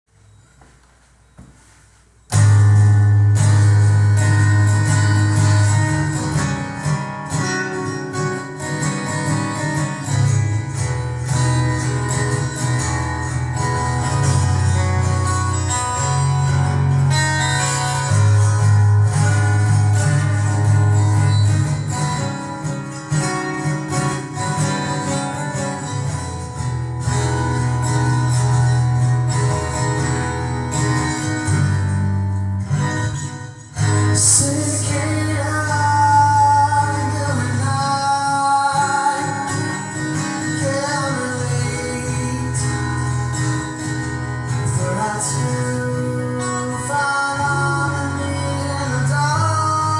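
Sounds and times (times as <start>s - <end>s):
acoustic guitar strummed: 0.4s - 49.9s.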